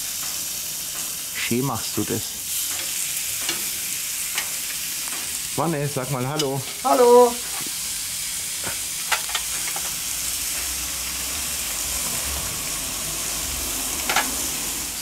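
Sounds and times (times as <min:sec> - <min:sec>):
meat sizzling on griddle: 0:00.0 - 0:15.0.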